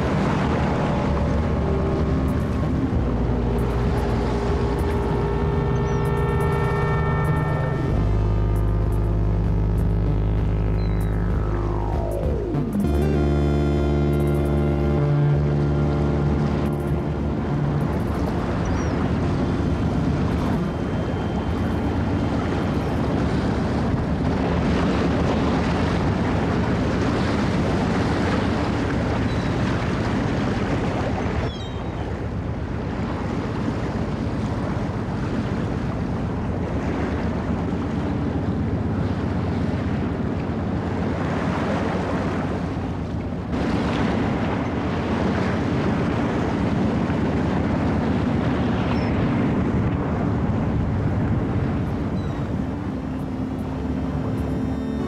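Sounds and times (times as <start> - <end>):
boat engine drone: 0.0 - 55.0
rough sea breaking around boat: 0.0 - 55.0.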